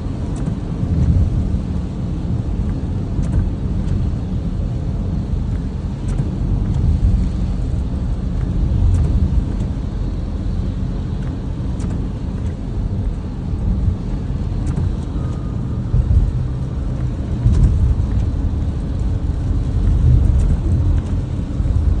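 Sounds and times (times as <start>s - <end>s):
engine and tyre rumble: 0.0s - 22.0s.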